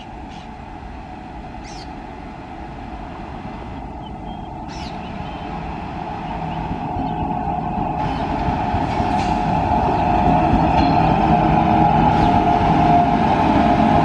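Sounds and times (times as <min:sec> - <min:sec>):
train hum and rumble: 0:00.0 - 0:14.0.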